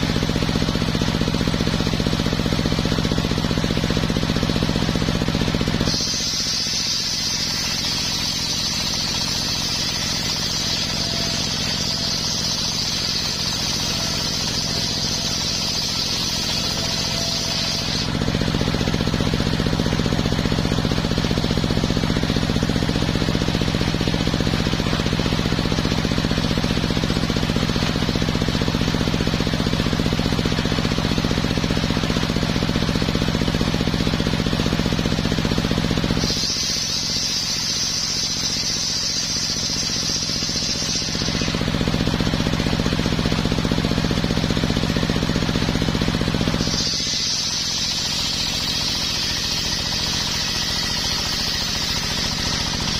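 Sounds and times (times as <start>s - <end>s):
high saw whine: 0.0s - 52.9s
sawmill engine hum: 0.0s - 52.9s.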